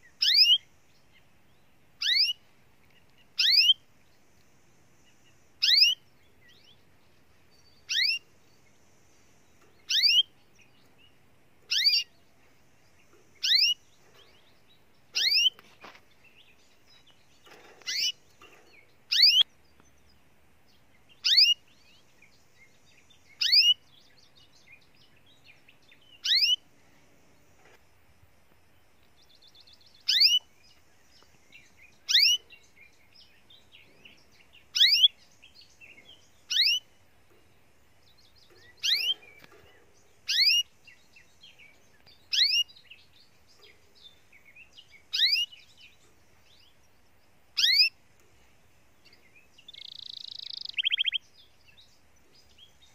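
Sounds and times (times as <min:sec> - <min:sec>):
blackbird calling: 0:00.0 - 0:01.2, 0:02.0 - 0:03.9, 0:05.0 - 0:20.0, 0:21.0 - 0:27.0, 0:29.4 - 0:48.0, 0:49.0 - 0:52.9.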